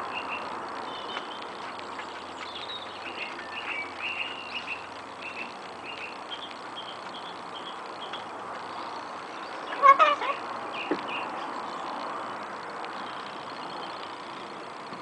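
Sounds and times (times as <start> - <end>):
bird chirping: 0.0 - 14.7
steady background hiss: 0.0 - 15.0.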